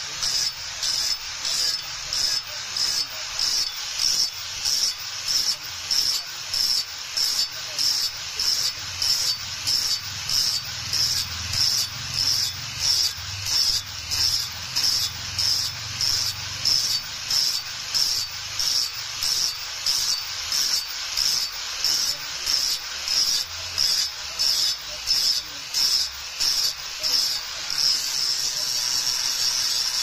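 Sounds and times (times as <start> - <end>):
abrasive strokes on steel blade: 0.0 - 30.0.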